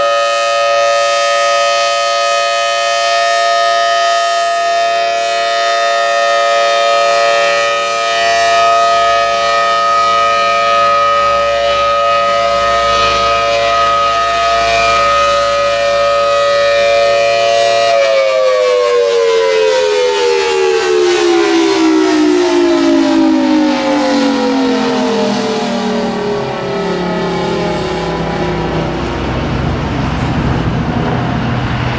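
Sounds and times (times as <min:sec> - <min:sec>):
civil defense siren: 0:00.0 - 0:31.9.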